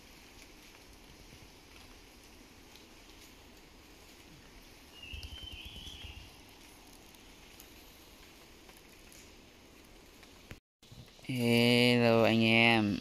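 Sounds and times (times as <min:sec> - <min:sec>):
rainforest background: 0:00.0 - 0:13.0.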